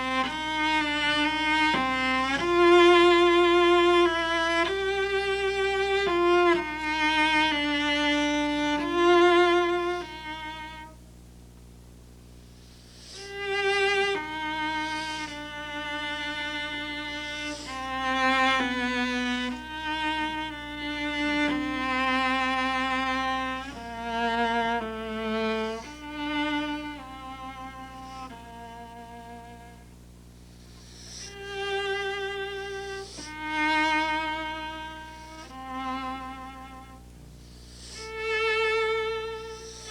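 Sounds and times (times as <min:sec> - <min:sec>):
solo cello melody: 0:00.0 - 0:11.0, 0:13.0 - 0:30.0, 0:30.9 - 0:39.9.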